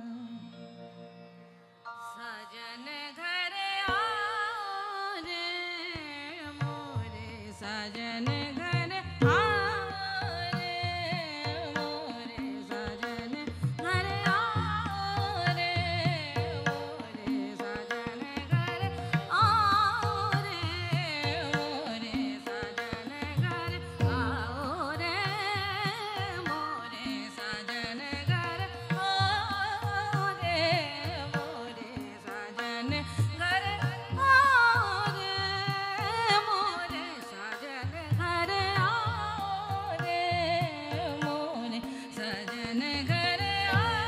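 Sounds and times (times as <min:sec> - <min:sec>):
woman singing: 0:00.0 - 0:00.8, 0:02.0 - 0:44.0
tanpura drone: 0:00.0 - 0:44.0
tabla strokes: 0:05.2 - 0:44.0.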